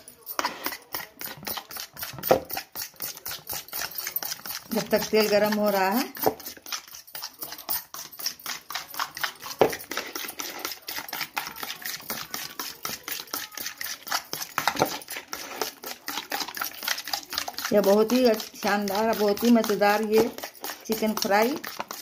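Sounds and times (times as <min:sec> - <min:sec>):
fork beating eggs in bowl: 0:00.0 - 0:22.0.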